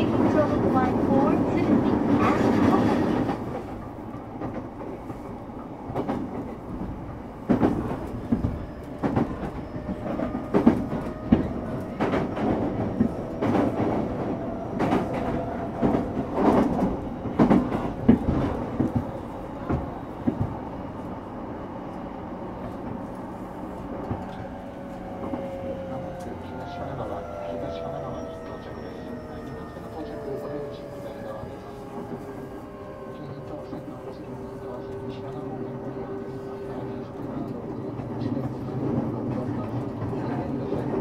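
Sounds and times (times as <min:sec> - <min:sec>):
train rolling rumble: 0:00.0 - 0:41.0.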